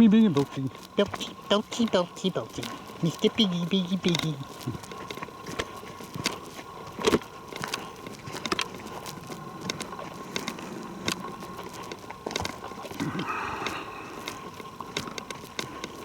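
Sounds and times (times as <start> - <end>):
footsteps on leaves and twigs: 0.0 - 16.0.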